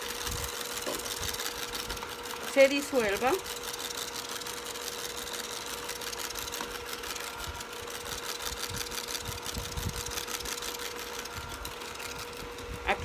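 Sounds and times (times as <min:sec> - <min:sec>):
electric hand mixer whirring: 0:00.0 - 0:13.0.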